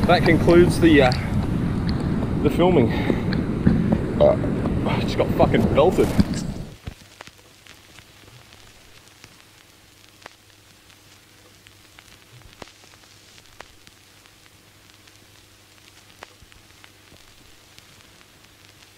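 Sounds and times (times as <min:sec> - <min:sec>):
faint static hiss: 0:00.0 - 0:18.9
low steady hum: 0:00.0 - 0:18.9
sharp crackles and pops: 0:00.0 - 0:18.9.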